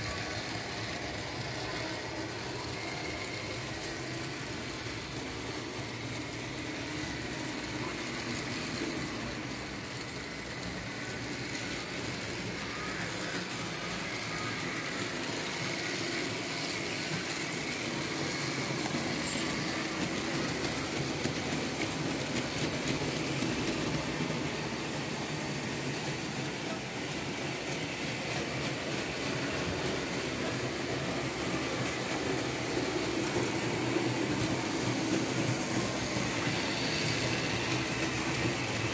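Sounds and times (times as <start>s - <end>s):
model train rolling on metal track: 0.0s - 38.9s.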